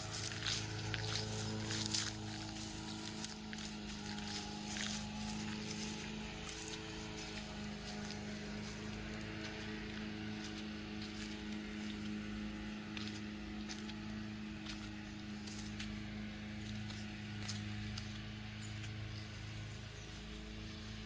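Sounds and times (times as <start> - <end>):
footsteps: 0.0 - 19.5
low electrical hum: 0.0 - 21.0.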